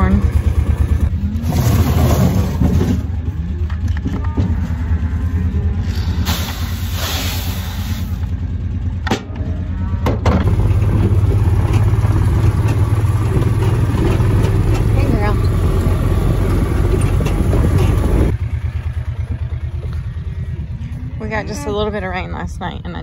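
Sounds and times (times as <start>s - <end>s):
vehicle engine idling: 0.0s - 1.7s, 2.4s - 23.0s.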